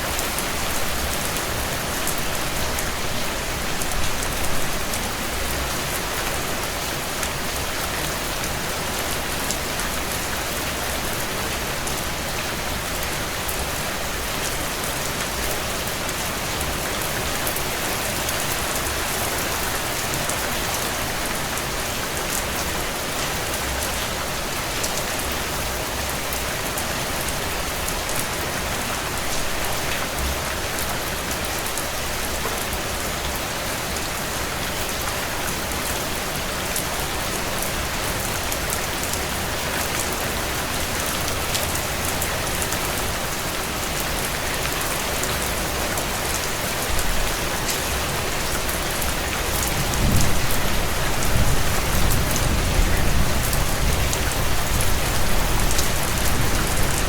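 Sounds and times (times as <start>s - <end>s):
rain drumming on a tin roof: 0.0s - 57.0s.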